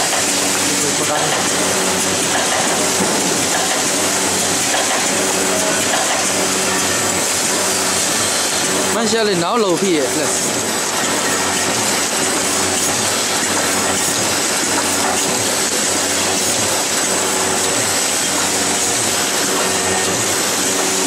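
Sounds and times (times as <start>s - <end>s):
cartoning machine running: 0.0s - 21.0s.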